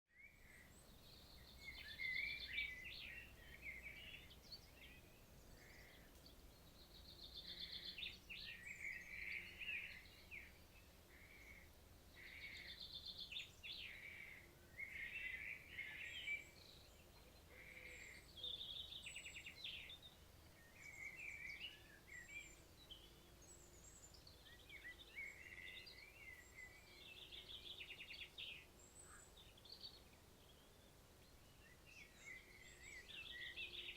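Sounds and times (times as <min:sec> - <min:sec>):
faint forest background: 0:00.1 - 0:33.9
songbirds singing: 0:00.1 - 0:33.9.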